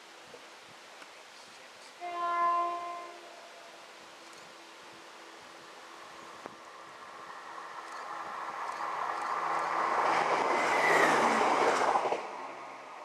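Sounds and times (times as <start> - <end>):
diesel train passing: 2.0 - 13.0.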